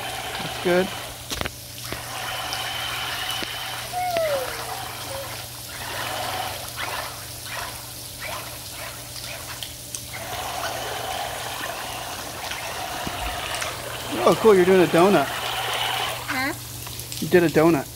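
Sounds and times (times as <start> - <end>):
water splashing and churning: 0.0 - 17.8.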